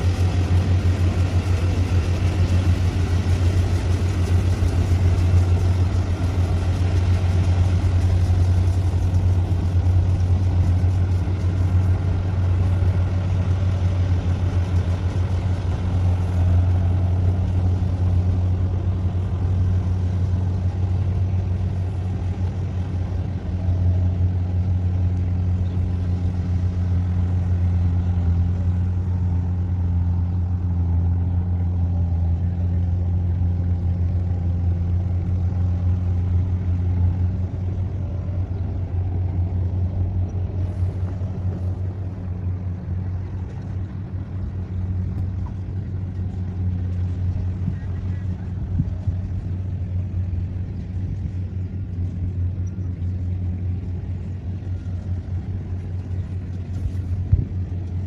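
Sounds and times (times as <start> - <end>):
harvester engine droning: 0.0 - 58.0.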